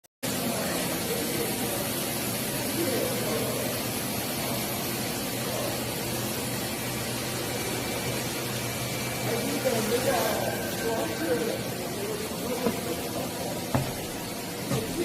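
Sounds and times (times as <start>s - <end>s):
machine hum and hiss: 0.2s - 15.0s.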